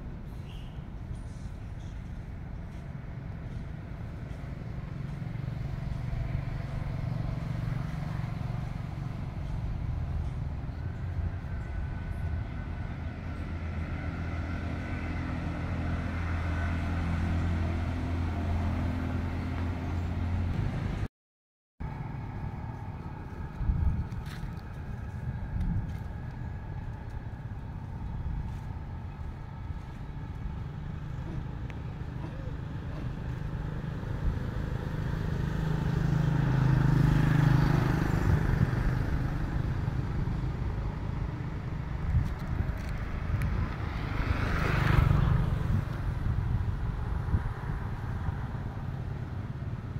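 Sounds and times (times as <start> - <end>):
auto-rickshaw engine humming: 0.0 - 21.1, 21.8 - 49.9
vehicle passing by: 1.2 - 21.1, 21.8 - 49.9.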